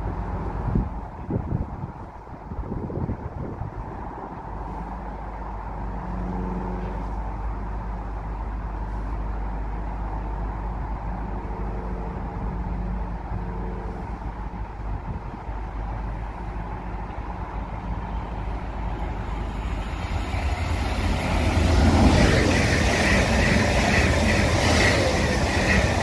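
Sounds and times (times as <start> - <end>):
train rumble: 0.0 - 26.0
faint engine hum: 4.2 - 26.0.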